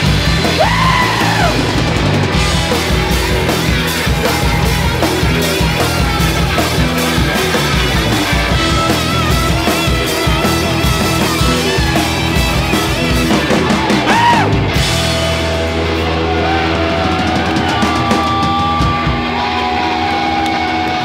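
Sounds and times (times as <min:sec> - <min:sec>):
bass guitar: 0:00.0 - 0:21.0
distorted electric guitar: 0:00.0 - 0:21.0
fast drumming: 0:00.0 - 0:21.0.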